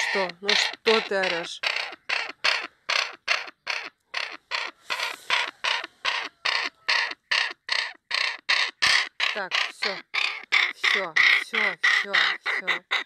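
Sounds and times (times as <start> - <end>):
young crow begging calls: 0.0 - 13.0.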